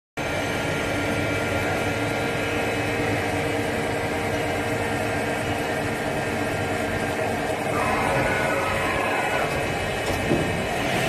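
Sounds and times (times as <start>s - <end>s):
lathe machine hum and whine: 0.2s - 11.0s.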